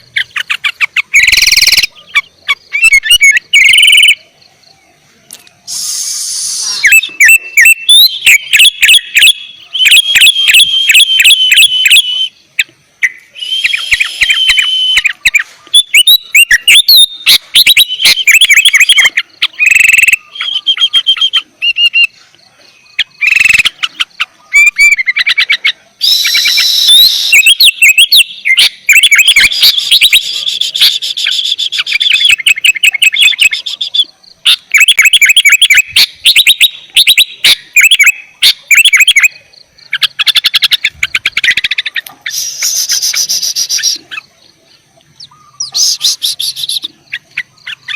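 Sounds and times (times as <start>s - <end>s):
bulbul singing: 0.0s - 47.9s.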